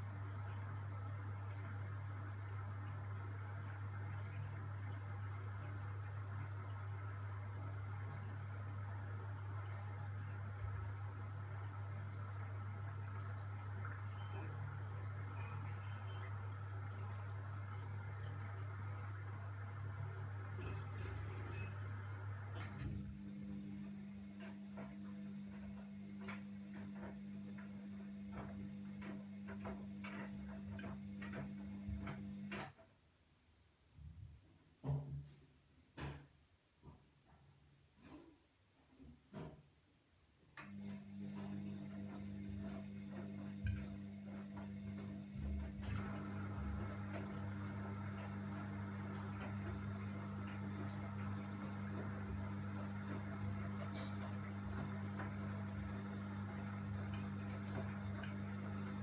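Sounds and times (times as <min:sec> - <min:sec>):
washing machine motor hum: 0:00.0 - 0:32.8, 0:40.4 - 0:59.0.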